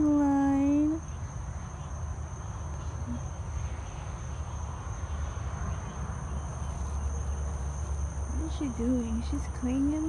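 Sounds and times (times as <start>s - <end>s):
night insects trilling: 0.0s - 10.0s.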